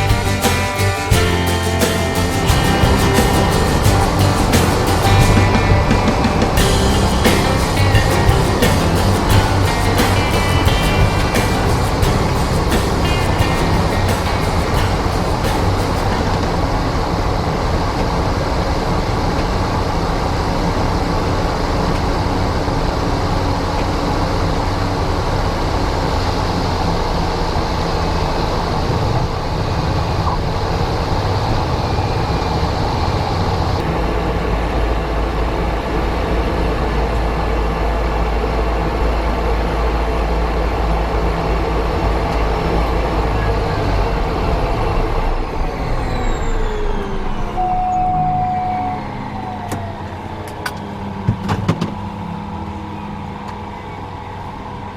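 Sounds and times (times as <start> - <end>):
vehicle engine drone: 0.0 - 54.9.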